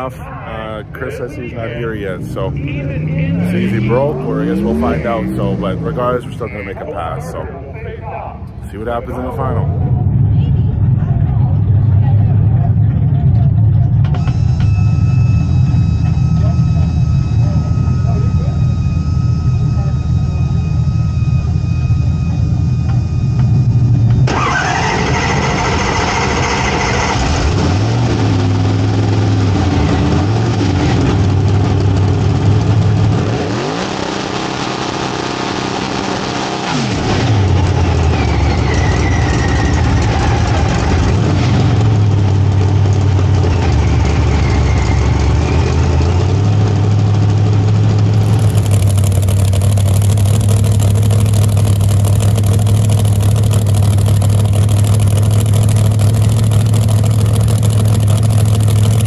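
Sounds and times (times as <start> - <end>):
engine revving and idling: 0.0 - 7.6, 8.5 - 59.0
supercharger whine: 0.0 - 59.0.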